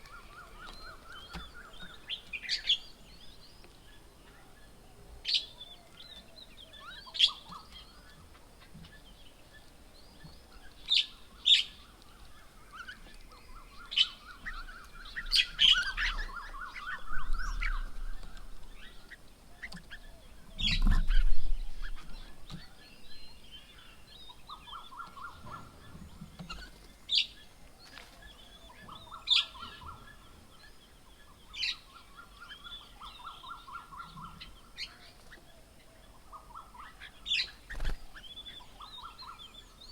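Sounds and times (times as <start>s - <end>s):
birds calling: 0.0s - 39.9s
birds trilling: 0.0s - 39.9s.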